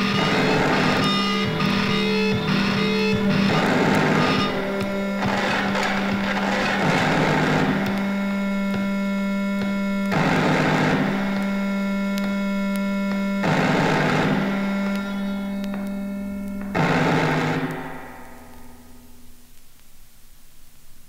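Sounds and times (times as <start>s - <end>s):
harsh noise surges: 0.0s - 19.5s
low drone: 0.0s - 19.5s
steady higher tones: 0.0s - 19.6s.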